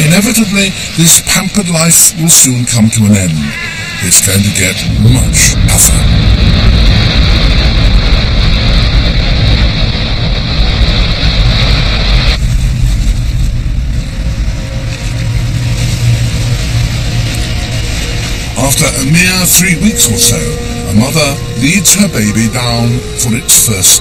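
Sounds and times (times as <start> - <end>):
heavy ocean waves breaking: 0.0 - 24.0.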